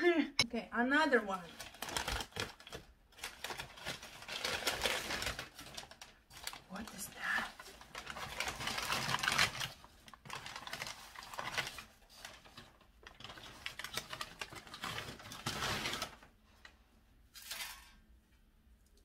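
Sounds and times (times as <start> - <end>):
wrapping paper crinkling: 1.3 - 16.6.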